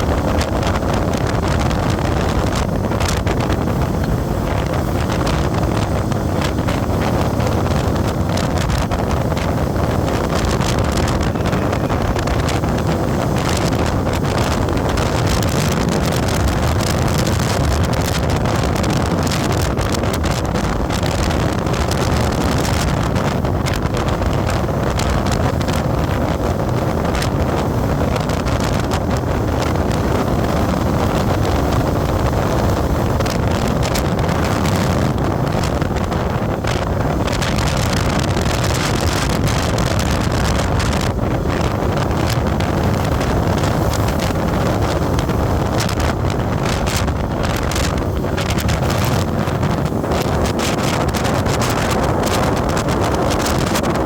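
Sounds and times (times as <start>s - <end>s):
vehicle engine and road noise: 0.0s - 54.0s
wind buffeting microphone: 0.0s - 54.0s.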